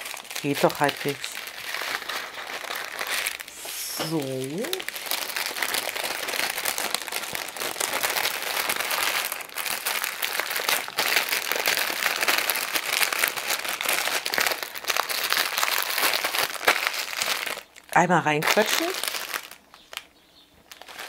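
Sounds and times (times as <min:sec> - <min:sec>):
plastic film crinkling: 0:00.0 - 0:21.0.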